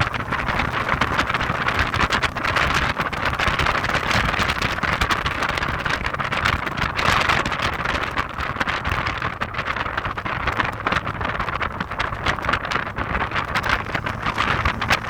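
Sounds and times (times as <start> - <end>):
car road noise: 0.0 - 15.0
wind buffeting microphone: 0.0 - 15.0.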